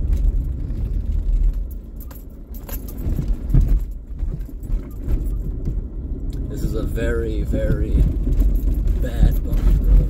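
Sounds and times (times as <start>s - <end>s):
car rumbling over dirt trail: 0.0s - 10.0s
rattles and knocks over bumps: 0.0s - 10.0s.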